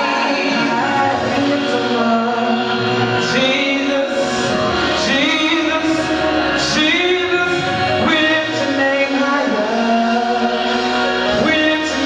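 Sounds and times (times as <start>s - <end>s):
instrumental backing music: 0.0s - 12.0s
man singing into microphone: 0.0s - 12.0s.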